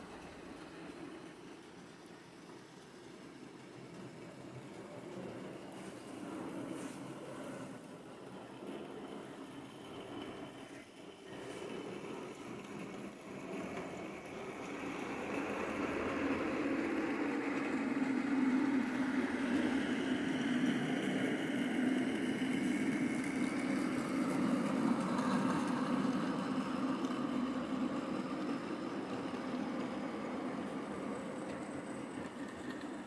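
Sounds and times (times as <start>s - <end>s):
model train motors whirring: 0.0s - 33.0s
wheels rumbling over track: 0.0s - 33.0s.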